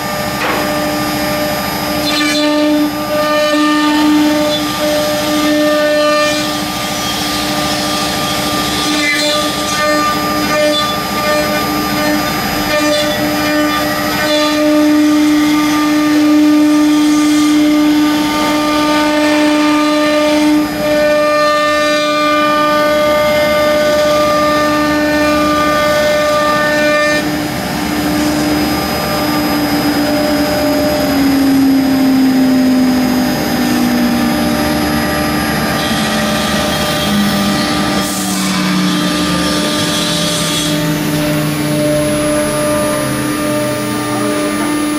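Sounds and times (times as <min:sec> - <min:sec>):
router spindles whining: 0:00.0 - 0:44.9.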